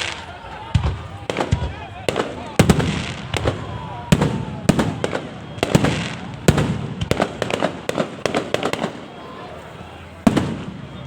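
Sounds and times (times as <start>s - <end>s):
fireworks shells bursting: 0.0s - 9.2s
faint firework whistle: 0.0s - 11.0s.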